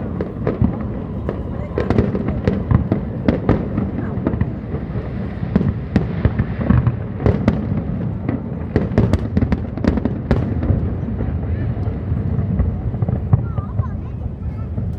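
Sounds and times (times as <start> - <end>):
fireworks bangs and crackles: 0.0 - 14.9
low rumble of fireworks: 0.0 - 14.9.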